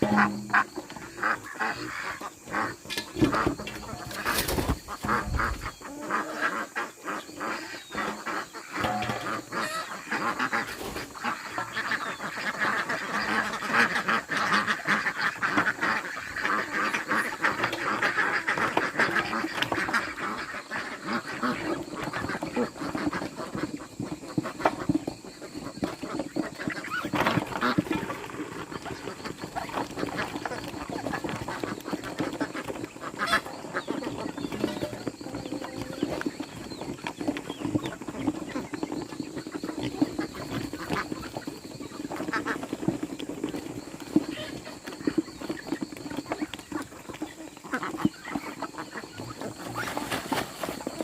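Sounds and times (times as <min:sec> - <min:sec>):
chorus of animal calls: 0:00.0 - 0:51.0.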